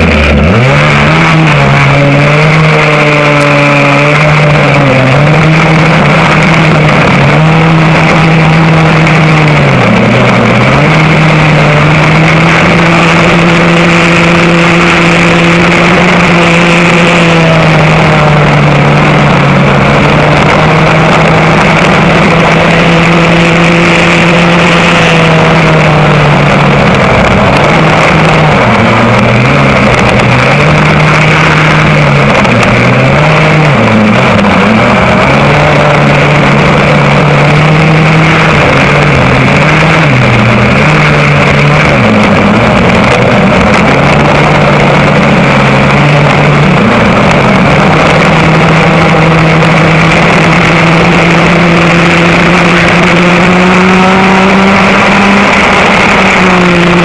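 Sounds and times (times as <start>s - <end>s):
go-kart engine racing: 0.0s - 57.0s.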